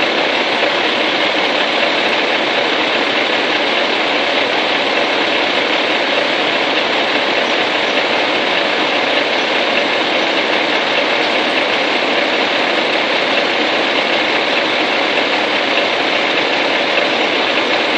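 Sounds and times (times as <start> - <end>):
truck diesel engine running: 0.0 - 17.9.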